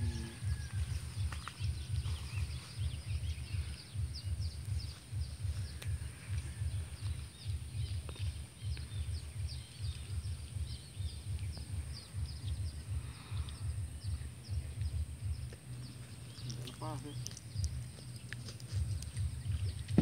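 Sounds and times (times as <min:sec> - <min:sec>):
bird chirps: 0:00.0 - 0:20.0
low rumble: 0:00.0 - 0:20.0.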